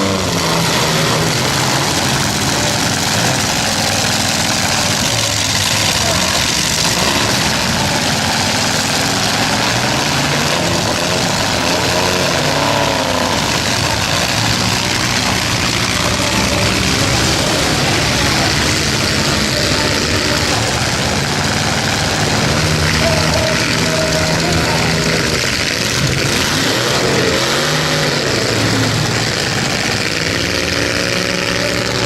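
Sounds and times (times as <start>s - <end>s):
truck engines revving: 0.0s - 32.0s.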